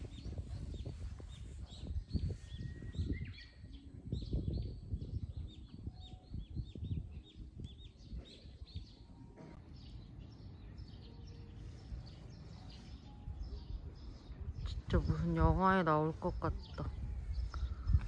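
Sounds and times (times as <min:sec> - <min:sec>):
small birds chirping: 0:00.0 - 0:18.0
wind rumble on microphone: 0:00.0 - 0:18.0.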